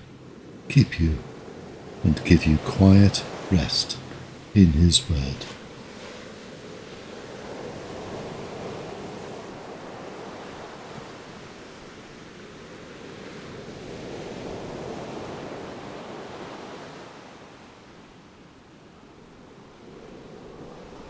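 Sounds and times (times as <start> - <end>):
ocean waves washing on shore: 0.0 - 17.6.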